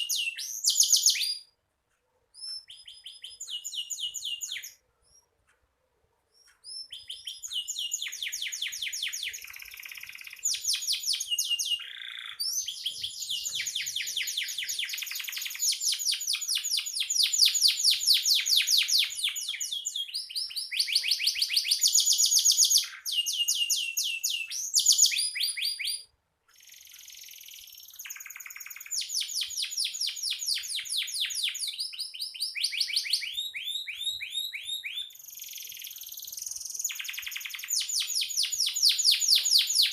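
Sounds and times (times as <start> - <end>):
canary singing trills: 0.0 - 1.6, 2.3 - 5.4, 6.3 - 39.9.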